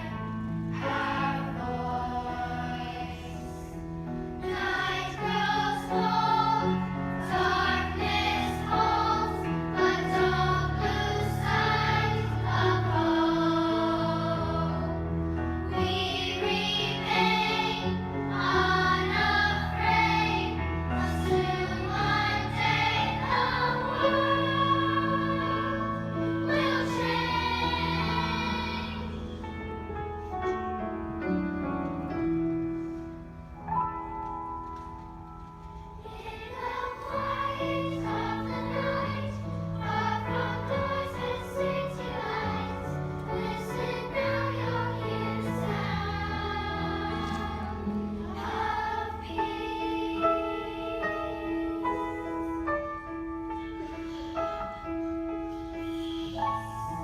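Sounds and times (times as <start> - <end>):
children's choir singing: 0.0 - 30.0, 35.5 - 57.0
piano chords: 0.0 - 57.0.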